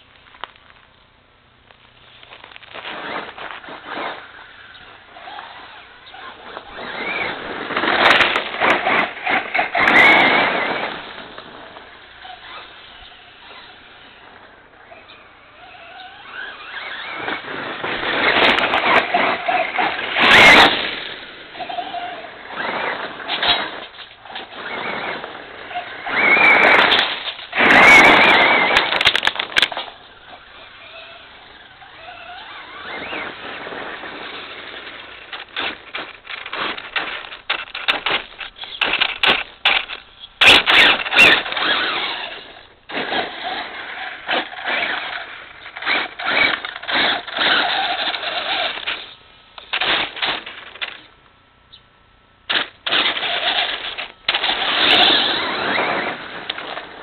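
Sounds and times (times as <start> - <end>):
tyres crunching on gravel: 0.0 - 51.2, 52.5 - 57.0
rc truck motor whine: 2.0 - 51.2, 52.4 - 57.0.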